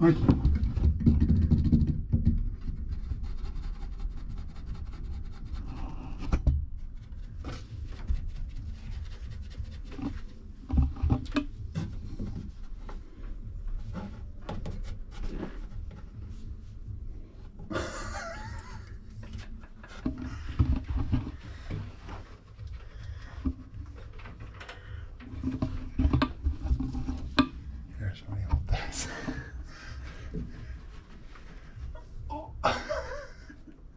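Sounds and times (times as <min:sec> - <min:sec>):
cat rubbing on wooden shelves: 0:00.3 - 0:17.5, 0:18.6 - 0:32.2.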